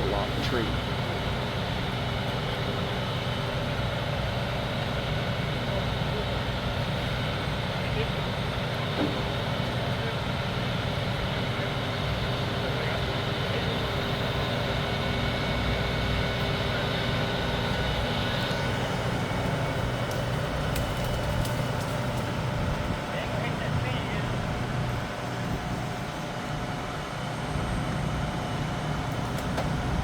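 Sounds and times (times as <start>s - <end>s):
heavy truck engine under load: 0.0s - 30.0s.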